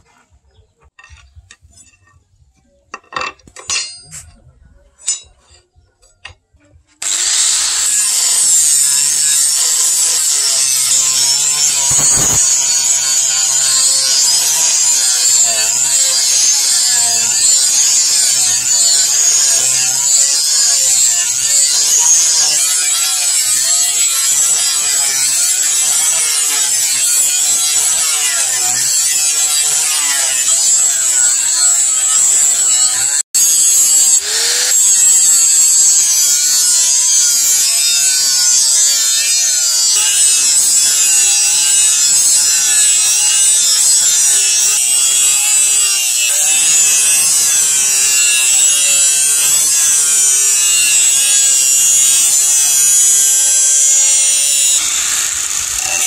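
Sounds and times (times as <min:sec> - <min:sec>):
angle grinder grinding steel: 0:00.8 - 0:02.2, 0:03.0 - 0:04.4, 0:05.0 - 0:06.4, 0:07.0 - 0:56.0.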